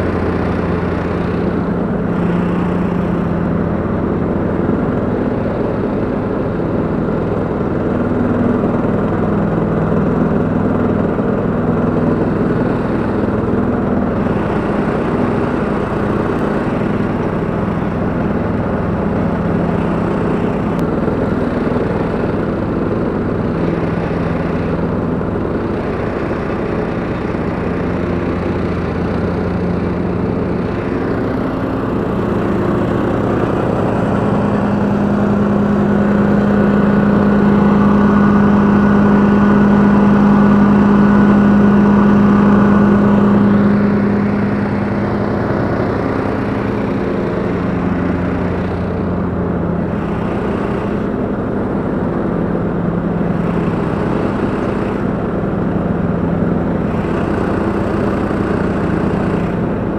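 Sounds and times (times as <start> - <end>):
lawn tractor engine drone: 0.0 - 59.9.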